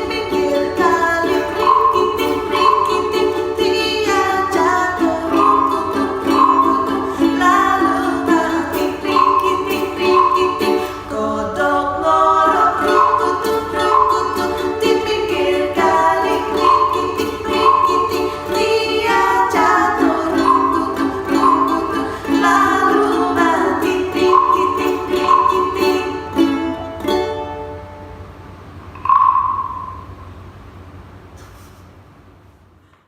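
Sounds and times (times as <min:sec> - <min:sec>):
high note ringing: 0:00.0 - 0:11.1, 0:12.5 - 0:26.8, 0:28.9 - 0:30.3
ukulele music: 0:00.0 - 0:30.4.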